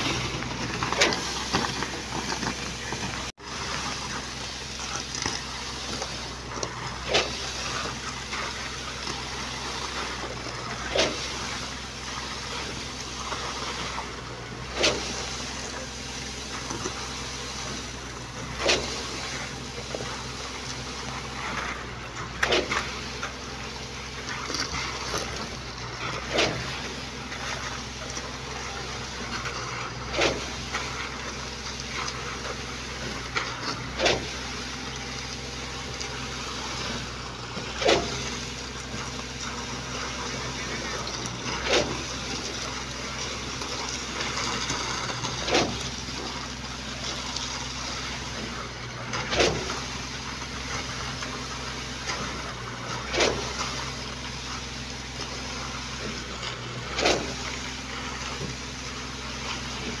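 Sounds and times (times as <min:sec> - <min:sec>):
pump engine running: 0:00.0 - 1:00.0.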